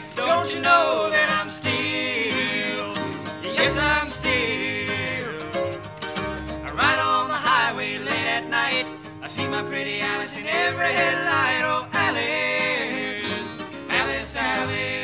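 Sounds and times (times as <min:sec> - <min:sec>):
person singing: 0:00.0 - 0:05.8, 0:06.6 - 0:15.0
acoustic guitars strumming: 0:00.0 - 0:15.0.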